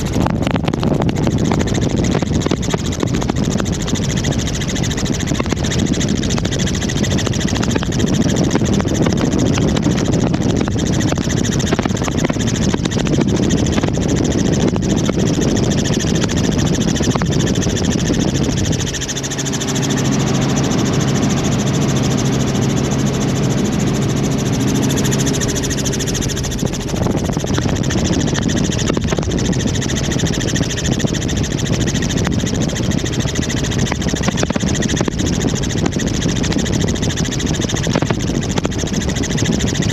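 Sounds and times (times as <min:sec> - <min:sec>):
helicopter engine and rotor roar: 0:00.0 - 0:39.9
steady hum with overtones: 0:00.0 - 0:39.9.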